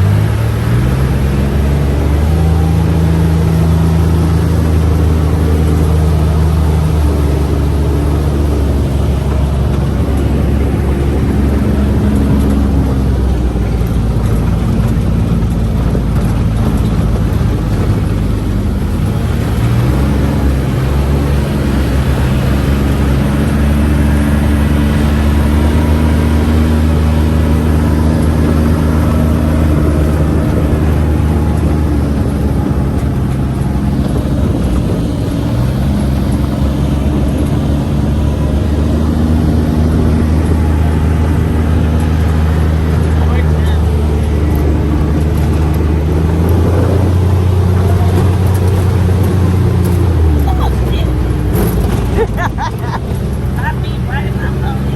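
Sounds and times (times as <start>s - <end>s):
ride rumble: 0.0s - 54.9s
utility vehicle engine: 0.0s - 54.9s.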